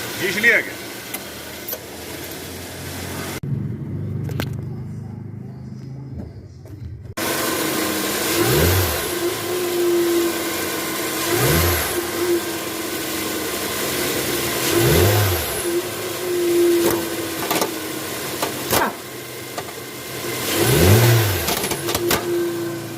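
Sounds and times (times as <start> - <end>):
car engine revving: 0.0 - 6.3, 7.1 - 22.9.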